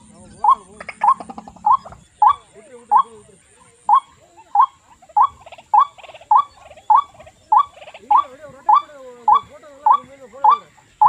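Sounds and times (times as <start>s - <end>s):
bird chirping: 0.0s - 11.0s
faint low wavering bird calls: 0.0s - 11.0s.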